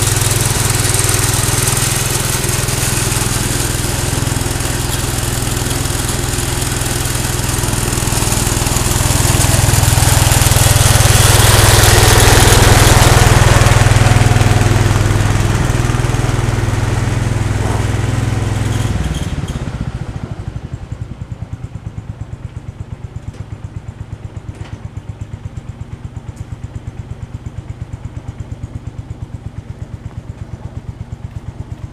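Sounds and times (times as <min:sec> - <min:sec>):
garden tractor engine running: 0:00.0 - 0:31.9.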